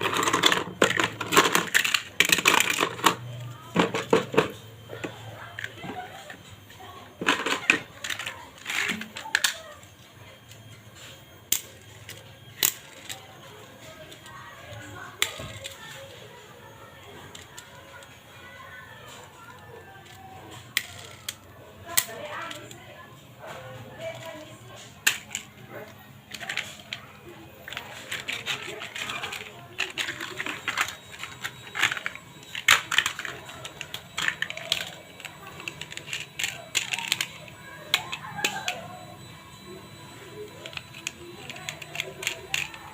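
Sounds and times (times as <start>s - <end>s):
toy cars clicking: 0.0s - 42.9s.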